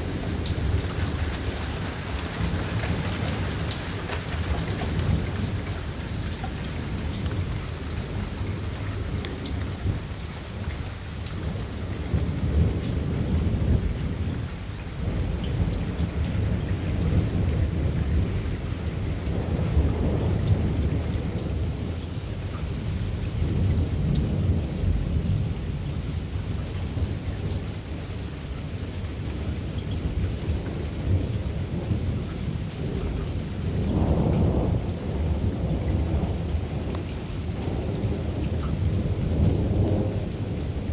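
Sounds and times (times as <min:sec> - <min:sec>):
thunder rumbling: 0:00.0 - 0:28.5, 0:29.1 - 0:40.9
heavy rain: 0:00.0 - 0:40.9
raindrops ticking on hard surface: 0:00.0 - 0:40.9.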